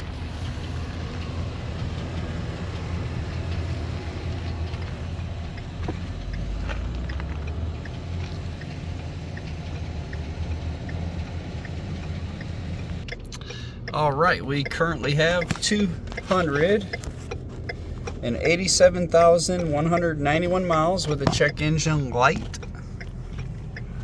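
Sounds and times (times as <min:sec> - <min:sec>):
engine idling with ticks: 0:00.0 - 0:24.0.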